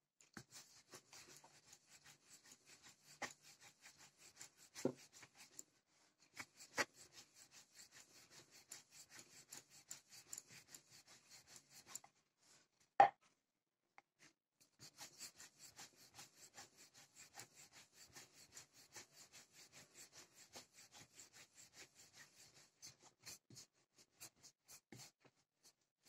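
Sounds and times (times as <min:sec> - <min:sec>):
rolling pin rubbing dough: 0:00.3 - 0:05.7, 0:06.3 - 0:12.0, 0:14.6 - 0:25.8.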